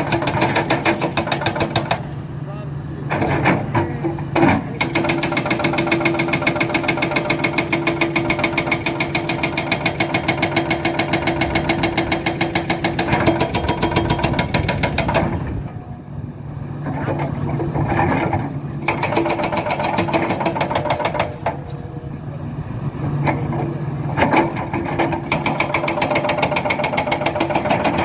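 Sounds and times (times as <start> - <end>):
hydraulic breaker hammering: 0.0 - 2.2, 3.1 - 15.9, 16.9 - 21.8, 23.2 - 28.0.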